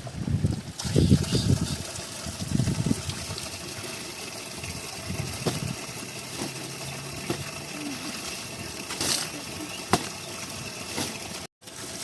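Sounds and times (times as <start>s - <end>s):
running spring water: 0.0s - 12.0s
water sloshing and splashing: 0.4s - 12.0s.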